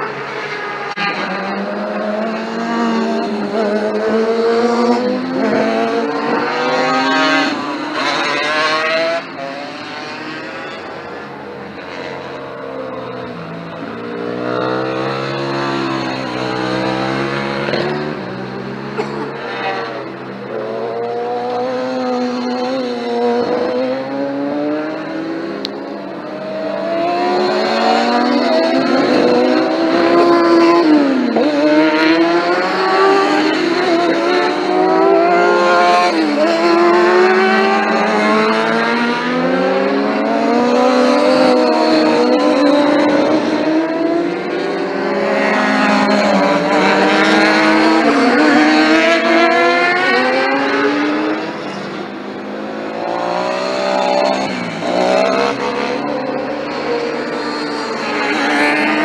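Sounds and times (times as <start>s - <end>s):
superbike engines at full throttle: 1.5s - 59.0s.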